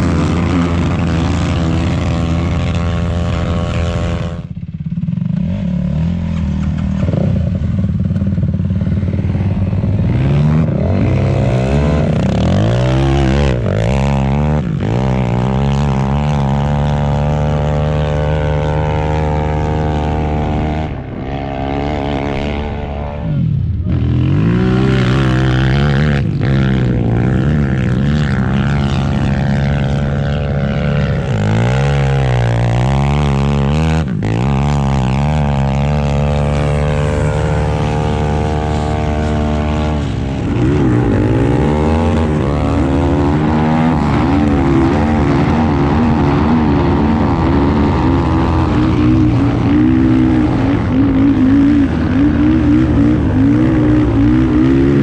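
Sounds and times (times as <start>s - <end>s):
atv engines revving: 0.0s - 55.0s.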